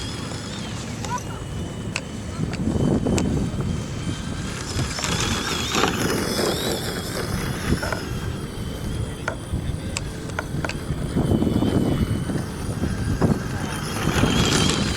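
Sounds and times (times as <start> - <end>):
electric motor whining: 0.0 - 14.9.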